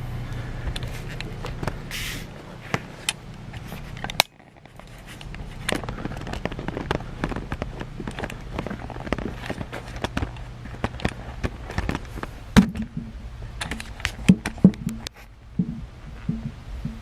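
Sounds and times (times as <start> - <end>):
steady low hum: 0.0 - 17.0
fan parts clicking and knocking: 0.3 - 17.0.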